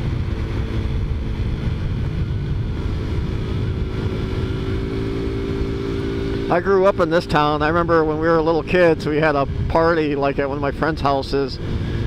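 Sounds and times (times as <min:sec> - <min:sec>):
scooter engine running: 0:00.0 - 0:12.0
wind rumble on microphone: 0:00.0 - 0:12.0.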